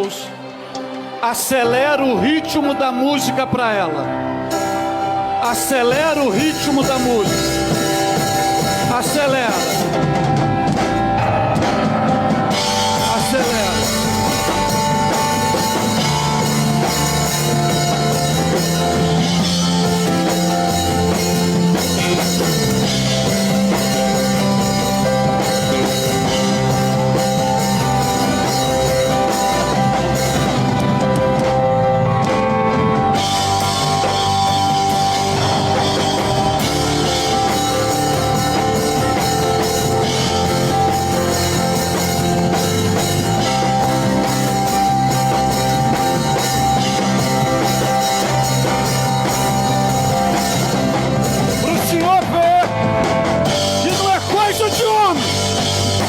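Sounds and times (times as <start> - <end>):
rock band music: 0.0 - 56.0
electric guitar: 1.8 - 56.0
drum kit: 4.3 - 56.0.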